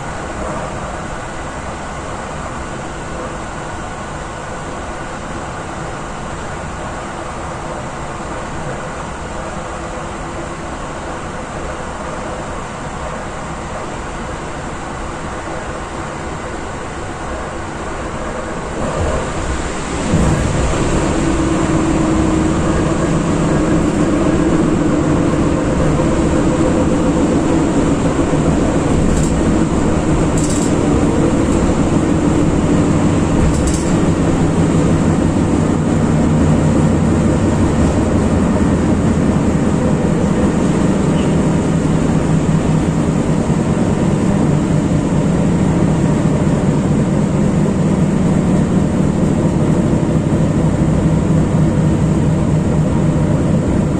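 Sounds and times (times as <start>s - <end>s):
wheels rumbling on rails: 0.0s - 53.9s.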